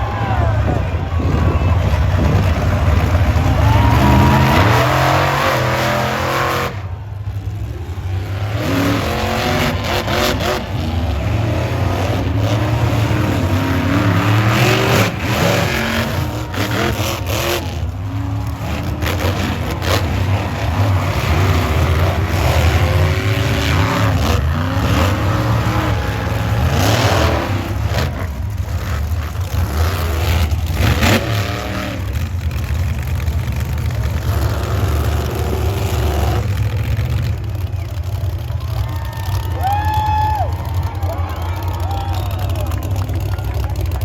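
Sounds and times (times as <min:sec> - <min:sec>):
truck engine revving: 0:00.0 - 0:44.0.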